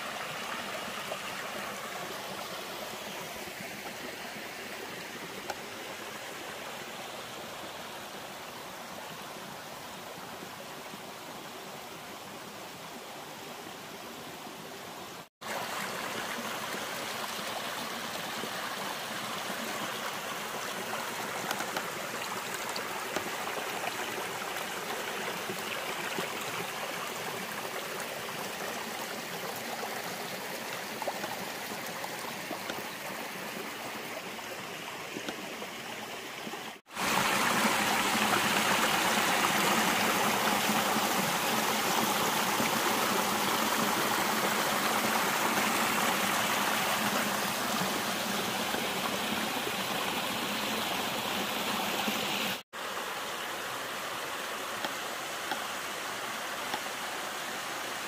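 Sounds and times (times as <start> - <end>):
creek running over stones: 0.0 - 58.0.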